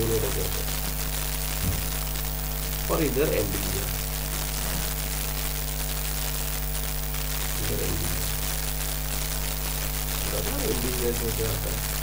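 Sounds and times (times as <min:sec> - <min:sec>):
electrical hiss: 0:00.0 - 0:12.0
mains hum: 0:00.0 - 0:12.0.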